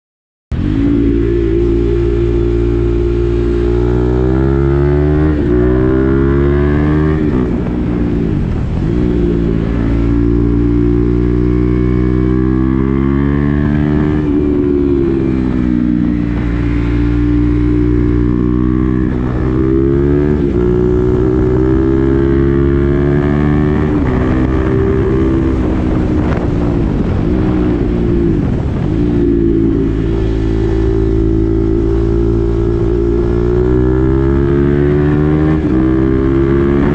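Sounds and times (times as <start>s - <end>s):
motorcycle engine accelerating: 0.5s - 36.9s.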